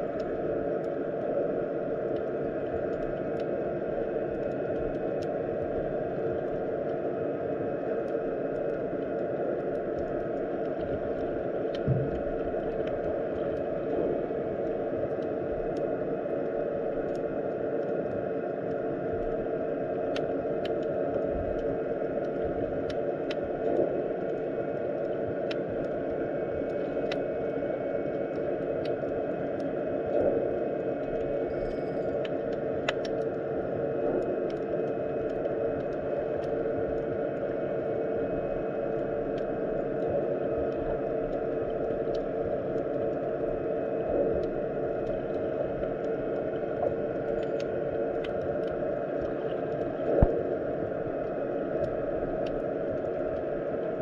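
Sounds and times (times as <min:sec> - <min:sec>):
faint clicks and ticks: 0:00.0 - 0:54.0
underwater low hum: 0:00.0 - 0:54.0.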